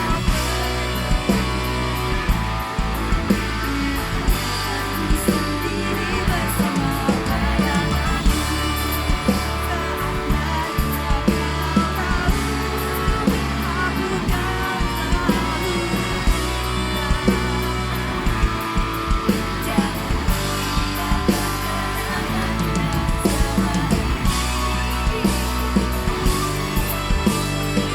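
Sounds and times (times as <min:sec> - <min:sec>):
live band music: 0:00.0 - 0:27.9.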